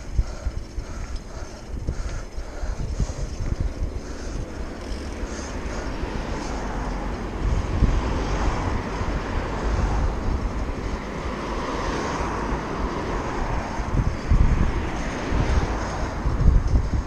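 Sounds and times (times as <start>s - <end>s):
road noise: 0.0s - 17.0s
wind gusting on microphone: 0.0s - 17.0s.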